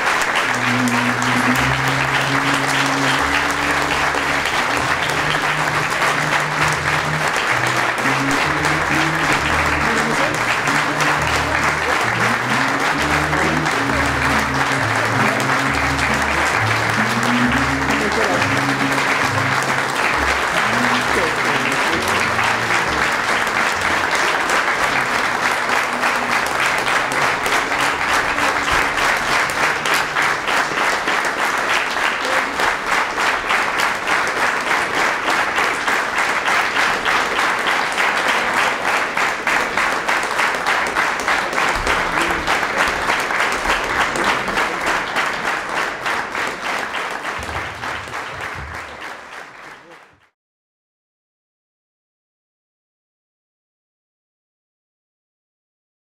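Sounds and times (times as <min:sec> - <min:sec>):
audience applauding in rhythm: 0:00.0 - 0:50.4.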